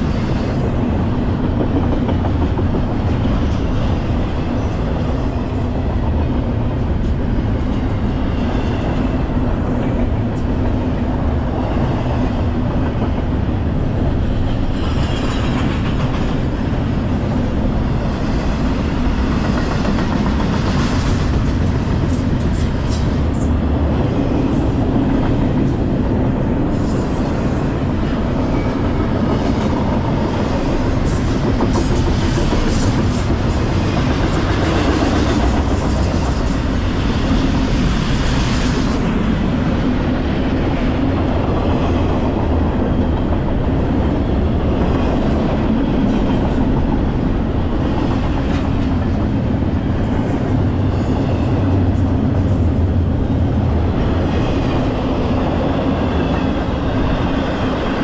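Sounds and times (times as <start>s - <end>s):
freight train wheels rumbling: 0.0s - 58.0s
train clicking and clatter: 0.0s - 58.0s.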